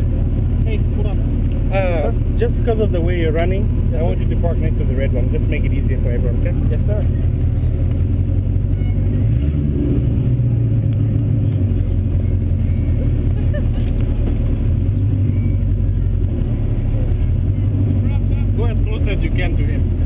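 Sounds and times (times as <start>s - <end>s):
car engine running at low revs: 0.0s - 20.0s.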